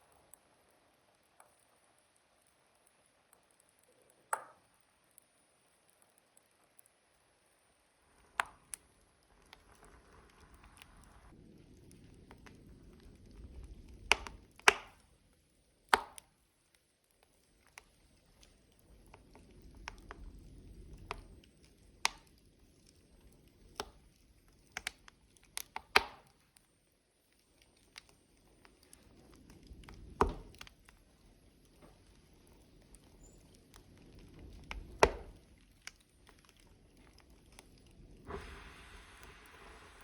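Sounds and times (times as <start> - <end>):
logs crackling in fire: 0.0 - 40.0
soft hiss: 0.0 - 40.0
soft rumble of flame: 0.0 - 40.0.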